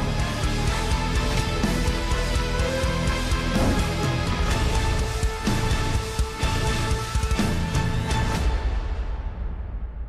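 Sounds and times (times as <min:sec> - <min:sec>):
theme music with steady beat: 0:00.0 - 0:09.8.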